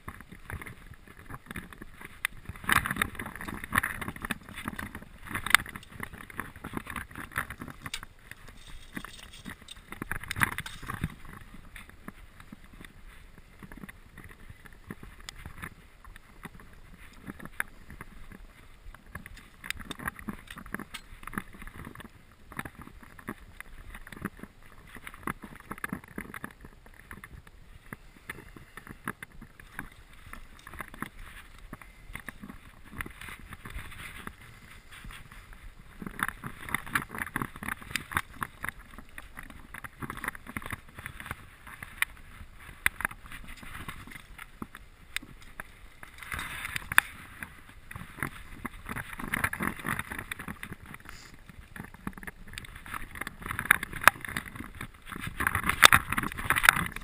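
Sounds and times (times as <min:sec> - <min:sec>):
handling clicks and rustles: 0:00.0 - 0:57.0.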